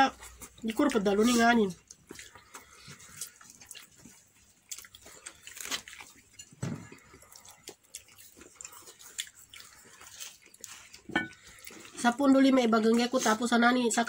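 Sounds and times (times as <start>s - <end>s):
wet chewing mouth clicks: 0.2s - 12.0s.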